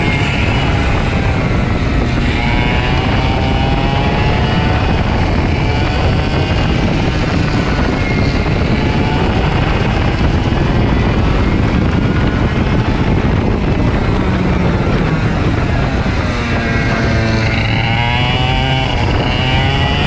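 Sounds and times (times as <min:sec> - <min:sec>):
kart engine running hard: 0:00.0 - 0:20.0
wind rush on microphone: 0:00.0 - 0:20.0.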